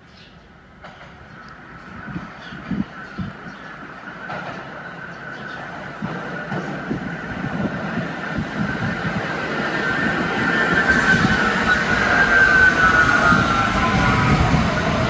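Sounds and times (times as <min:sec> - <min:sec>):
train high whine: 0:00.5 - 0:15.0
subway wheels clacking over joints: 0:00.7 - 0:15.0.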